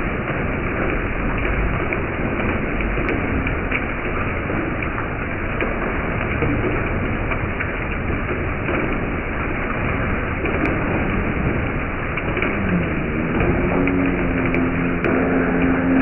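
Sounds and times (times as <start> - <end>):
hail and rain hissing: 0.0 - 16.0
hailstones ticking: 0.0 - 16.0.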